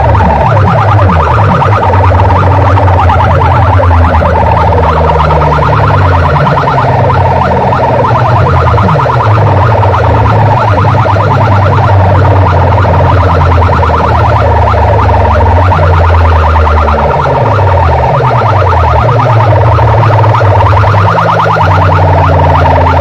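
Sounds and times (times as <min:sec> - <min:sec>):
heavy steady bass: 0:00.0 - 0:23.0
siren-like electronic chirps: 0:00.0 - 0:23.0.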